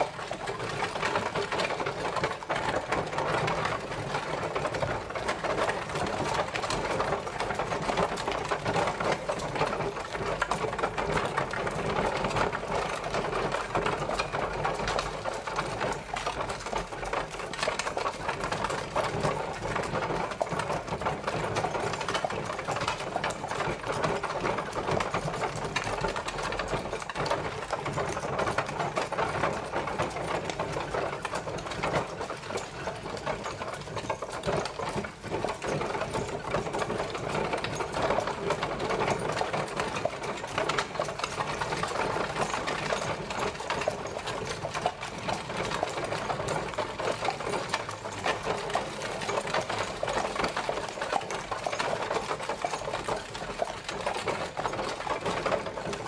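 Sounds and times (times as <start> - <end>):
horse-drawn carriage rattling: 0.0 - 56.0.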